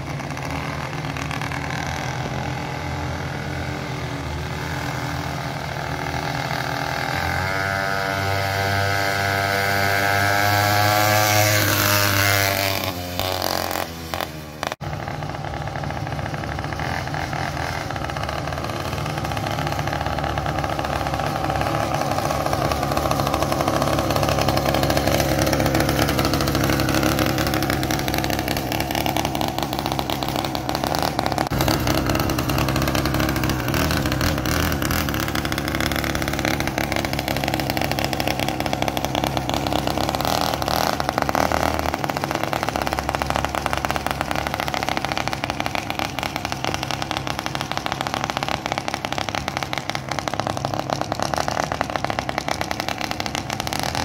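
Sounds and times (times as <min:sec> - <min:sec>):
small gas engine revving: 0:00.0 - 0:54.0.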